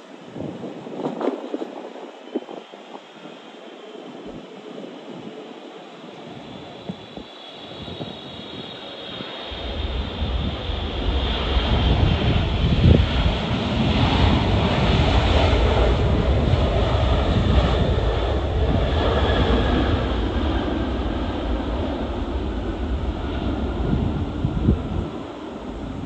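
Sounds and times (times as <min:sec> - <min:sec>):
jet airliner engines: 0:00.0 - 0:26.0
wind buffeting microphone: 0:00.0 - 0:26.0.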